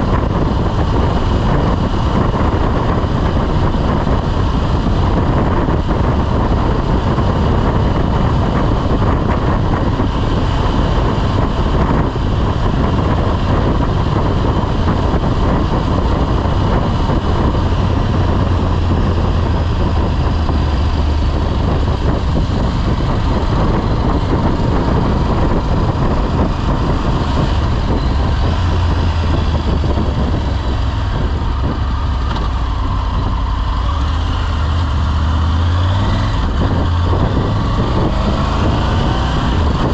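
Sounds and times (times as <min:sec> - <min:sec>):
motorcycle engine drone: 0:00.0 - 0:39.9
rushing noise: 0:00.0 - 0:39.9.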